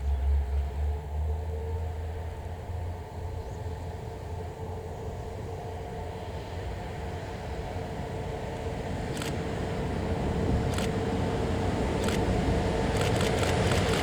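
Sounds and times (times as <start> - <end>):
diesel railcar engine drone: 0.0 - 14.0.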